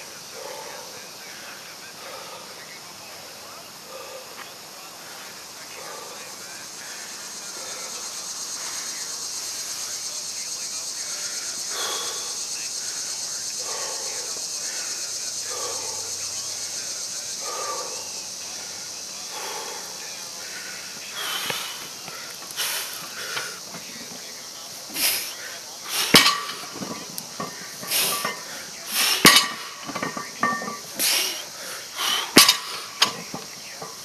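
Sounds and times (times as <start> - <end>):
constant high hiss: 0.0 - 34.0
man breathing hard: 0.0 - 34.0.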